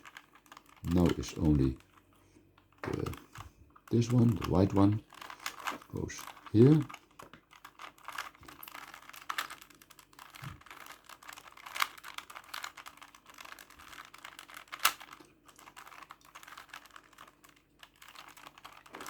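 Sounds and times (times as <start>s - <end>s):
puzzle cube plastic clicking: 0.0s - 19.0s.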